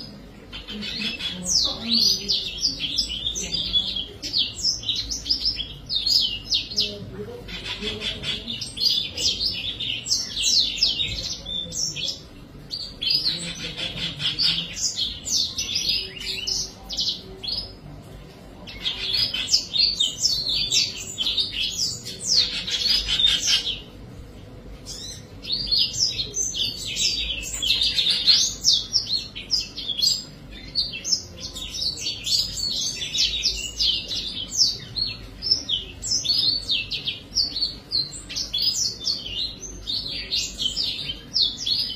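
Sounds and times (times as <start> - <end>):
small birds chirping rapidly: 0.0 - 41.9.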